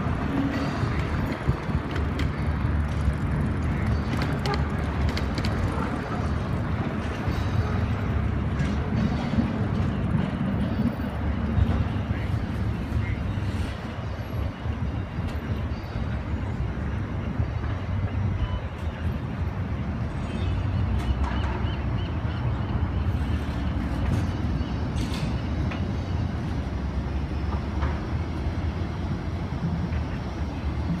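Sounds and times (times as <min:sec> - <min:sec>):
streetcar rumbling on rails: 0:00.0 - 0:31.0.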